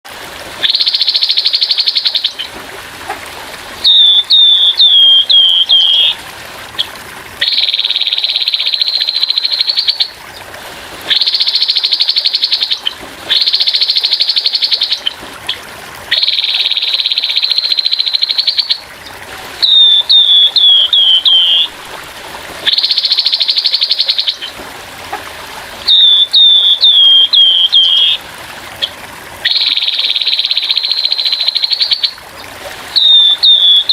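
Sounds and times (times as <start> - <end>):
trickle of water: 0.1 - 33.9.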